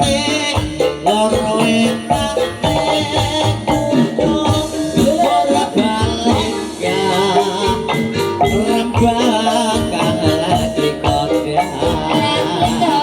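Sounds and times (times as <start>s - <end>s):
drum beat: 0.0s - 13.0s
wavering melody: 0.0s - 13.0s.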